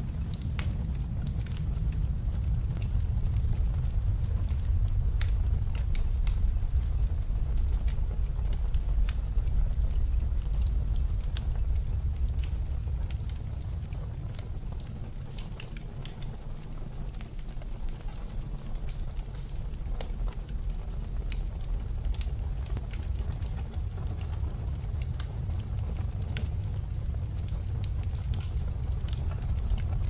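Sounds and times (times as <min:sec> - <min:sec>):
blizzard wind rumble: 0:00.0 - 0:30.0
wood fire crackling and popping: 0:00.0 - 0:30.0.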